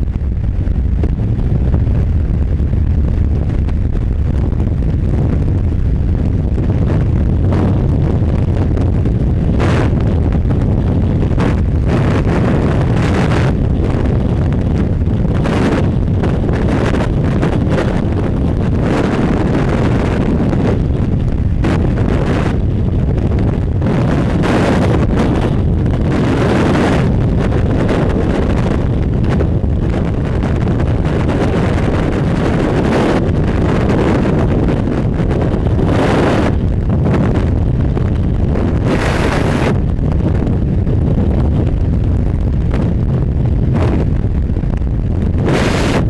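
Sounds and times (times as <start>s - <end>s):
freefall wind rushing: 0.0s - 46.0s.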